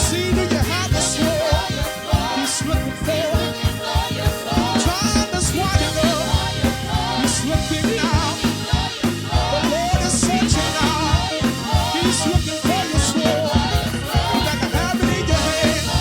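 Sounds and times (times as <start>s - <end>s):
drum kit beat: 0.0s - 16.0s
gospel singing with band: 0.0s - 16.0s.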